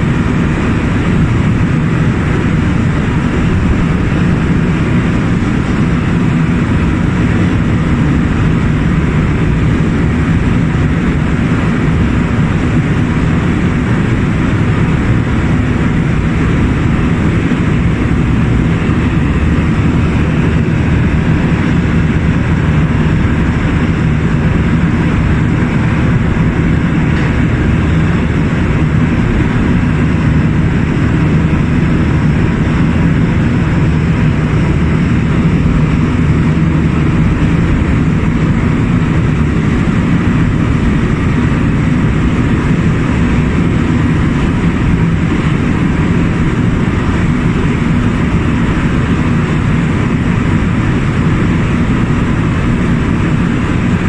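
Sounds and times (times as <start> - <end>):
boat engines running: 0.0 - 54.0
rushing wake and wind: 0.0 - 54.0.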